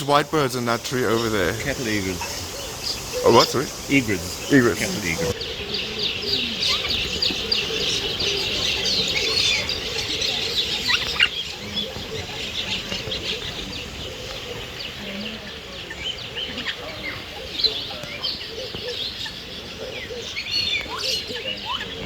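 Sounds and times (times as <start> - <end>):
loud bird call: 0.0 - 22.0
many birds chirping: 0.0 - 22.0.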